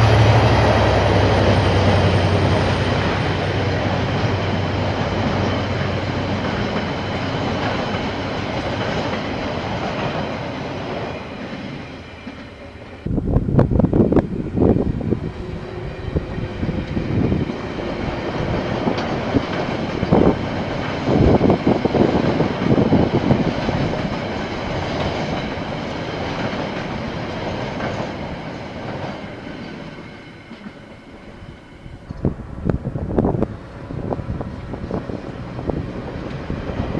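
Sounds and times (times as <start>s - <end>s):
train wheels clacking over rail joints: 0.0s - 36.9s.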